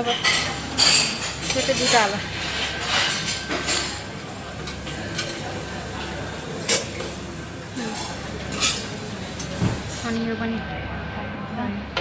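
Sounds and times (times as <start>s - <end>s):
utensils clinking on trays: 0.0s - 10.2s.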